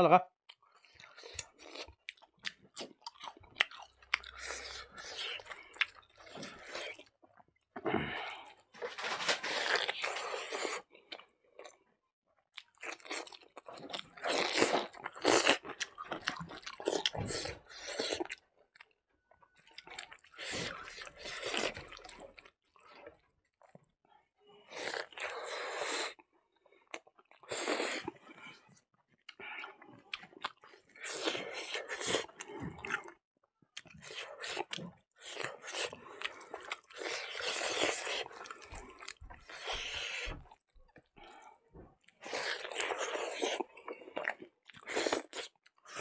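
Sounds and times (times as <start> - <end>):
person chewing crunchy food: 0.5 - 11.8, 12.5 - 23.8, 24.6 - 33.2, 33.8 - 46.0.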